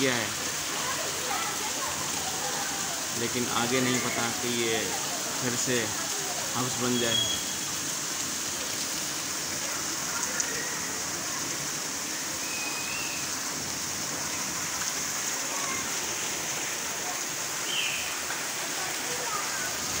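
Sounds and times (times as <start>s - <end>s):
rain splashing on hard surfaces: 0.0s - 20.0s.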